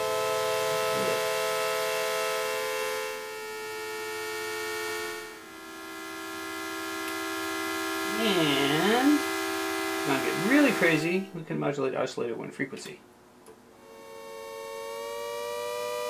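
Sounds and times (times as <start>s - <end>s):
synthesizer sustained note: 0.0s - 11.4s, 13.8s - 16.0s.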